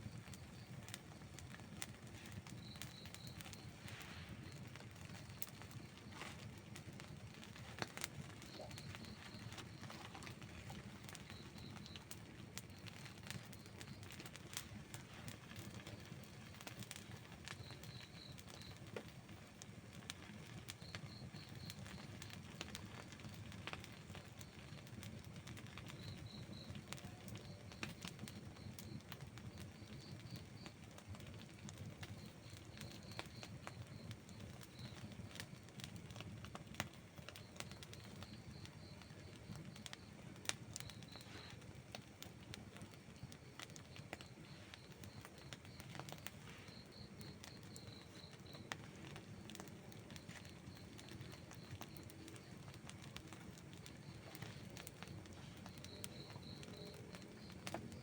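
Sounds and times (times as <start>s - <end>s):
campfire crackling and popping: 0.0s - 58.0s
low rush of flames: 0.0s - 58.0s.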